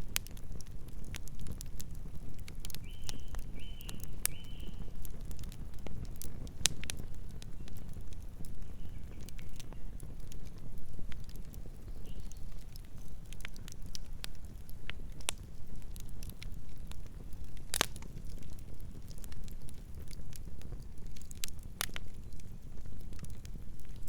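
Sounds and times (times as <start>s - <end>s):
campfire flames rumbling: 0.0s - 24.0s
wood crackling and popping: 0.0s - 24.0s.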